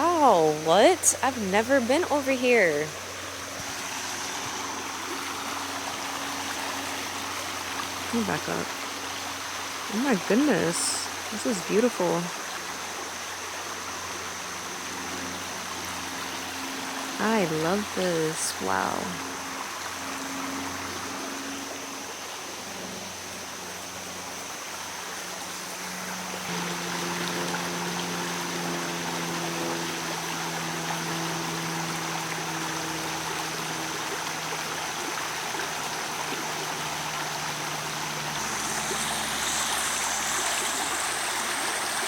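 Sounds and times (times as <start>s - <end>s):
low steady hum: 0.0s - 42.0s
stream water running: 0.0s - 42.0s.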